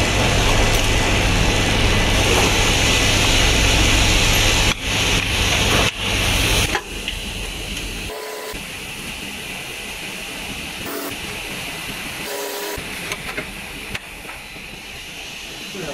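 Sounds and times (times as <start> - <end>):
machinery hum and hiss: 0.0 - 15.9.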